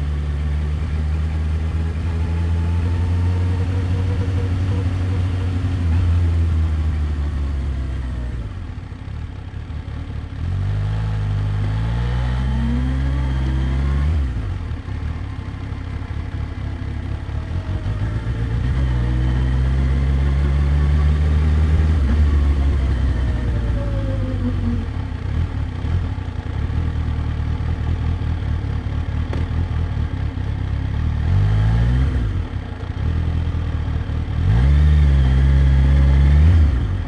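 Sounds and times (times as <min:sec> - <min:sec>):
motorcycle engine revving: 0:00.0 - 0:08.6, 0:10.3 - 0:15.4, 0:16.1 - 0:37.0.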